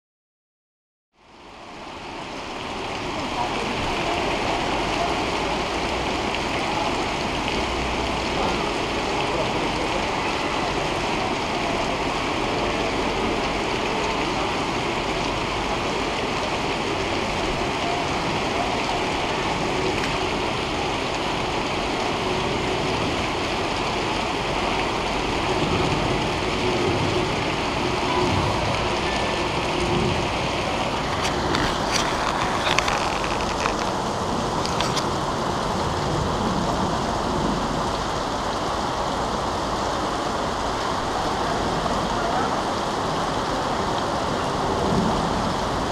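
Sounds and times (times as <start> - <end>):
floodwater rushing down street: 1.2 - 45.9.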